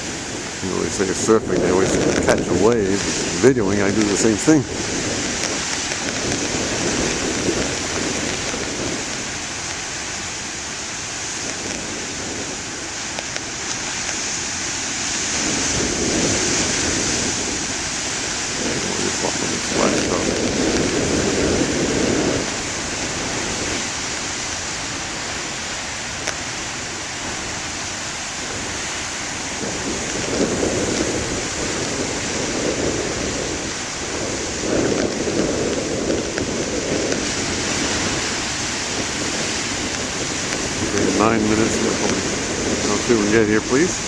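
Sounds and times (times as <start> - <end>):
ocean waves breaking: 0.0 - 44.0.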